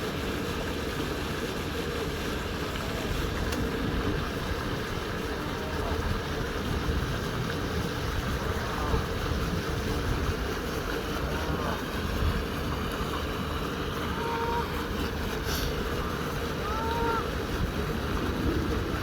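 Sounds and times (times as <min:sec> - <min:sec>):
steady wind: 0:00.0 - 0:19.0
water noise: 0:00.0 - 0:19.0.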